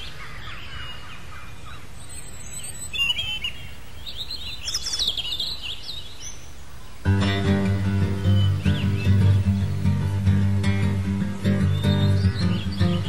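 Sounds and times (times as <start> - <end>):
birds singing and chirping: 0.0 - 13.0
low background noise: 0.0 - 13.0.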